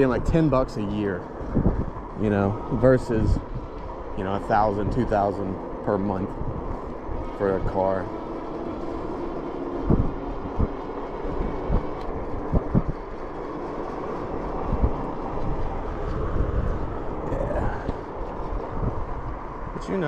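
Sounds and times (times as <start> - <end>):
wind rushing: 0.0 - 20.0.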